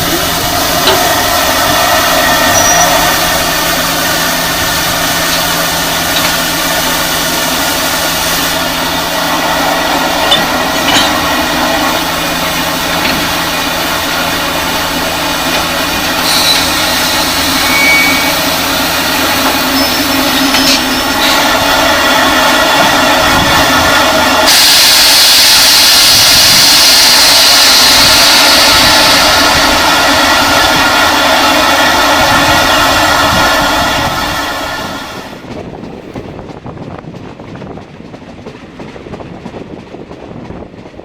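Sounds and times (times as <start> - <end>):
steam locomotive hiss and machinery: 0.0 - 35.6.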